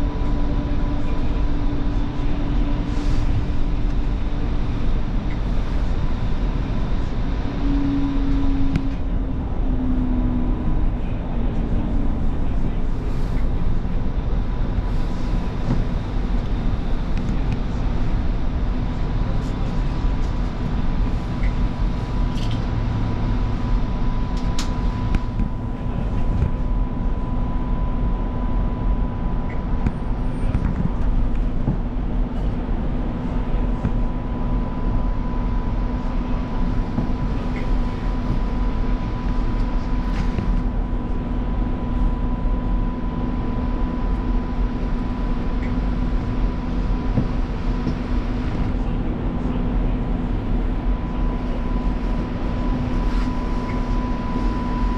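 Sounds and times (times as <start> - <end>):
train wheels rumbling on rail: 0.0 - 27.7, 28.8 - 54.9
constant hum: 0.0 - 54.9.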